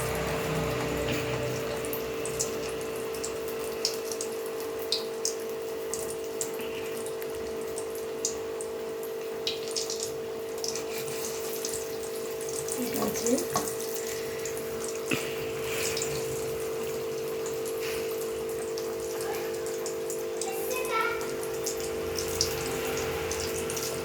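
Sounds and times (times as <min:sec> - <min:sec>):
hot oil sizzling and popping: 0:00.0 - 0:24.0.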